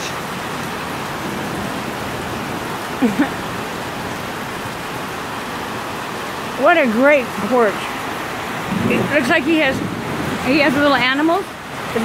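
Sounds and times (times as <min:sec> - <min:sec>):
heavy rain on a roof: 0:00.0 - 0:12.0.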